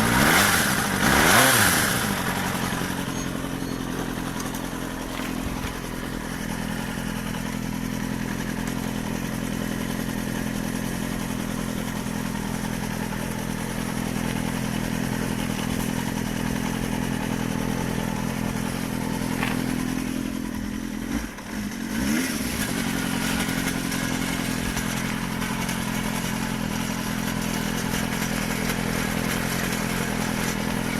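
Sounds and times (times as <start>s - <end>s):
engine rattle: 0.0s - 30.9s
motorcycle engine idling: 0.0s - 30.9s.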